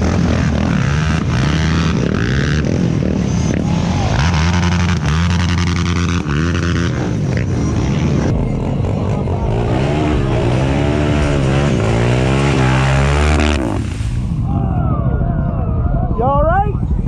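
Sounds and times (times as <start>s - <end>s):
off-road vehicle engine revving: 0.0s - 14.4s.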